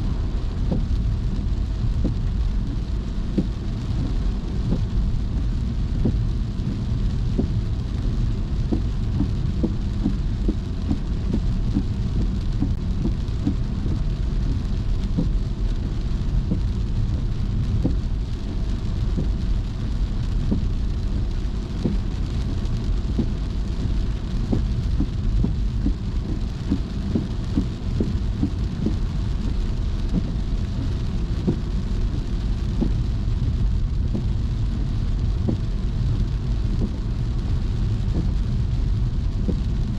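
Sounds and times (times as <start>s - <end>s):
car driving on wet road: 0.0s - 39.9s
raindrops ticking on car: 0.0s - 39.9s.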